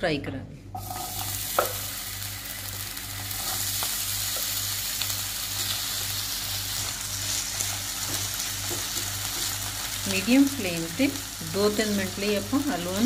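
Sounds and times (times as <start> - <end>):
potato sizzling in hot oil: 0.8 - 13.0.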